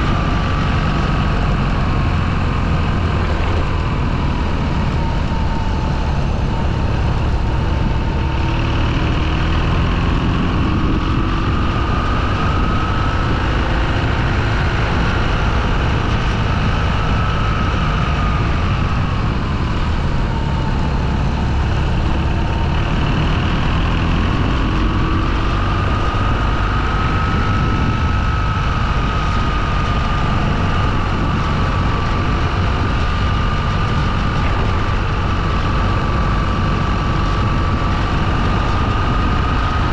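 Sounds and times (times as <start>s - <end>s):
motorcycle engine whining: 0.0s - 39.9s.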